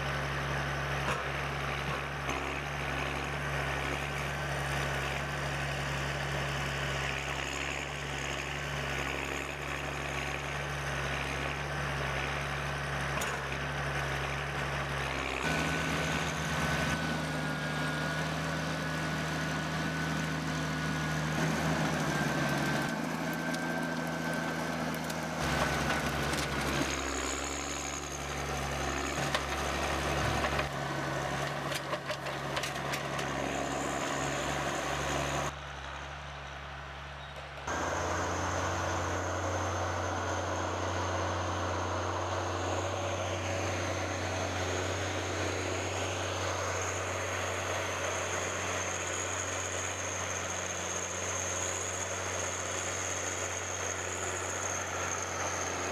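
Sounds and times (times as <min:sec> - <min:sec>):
heavy machinery engines running: 0:00.0 - 0:55.9.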